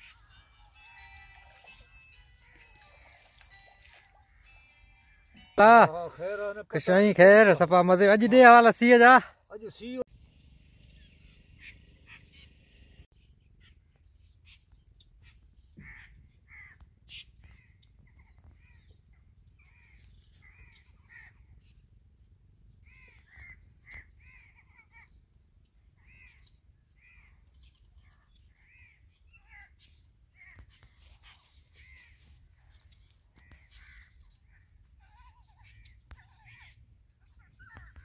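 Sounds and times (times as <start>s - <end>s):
birds calling faintly: 0.0s - 8.1s, 9.6s - 38.0s.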